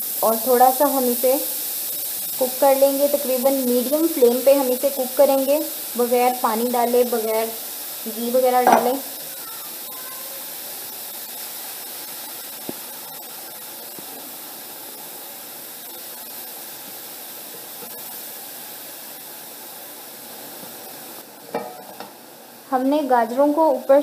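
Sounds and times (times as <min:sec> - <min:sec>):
carrots hissing in a pot: 0:00.0 - 0:24.0.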